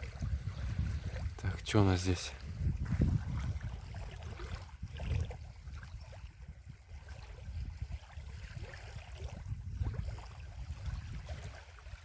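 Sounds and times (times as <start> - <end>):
waves lapping at shore: 0.0 - 12.0
wind on microphone: 0.0 - 12.0.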